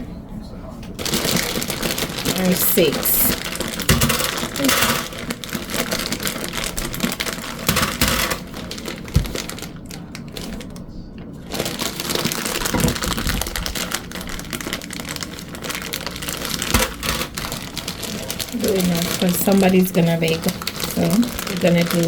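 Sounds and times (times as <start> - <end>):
plastic bag crinkling: 1.0 - 22.0.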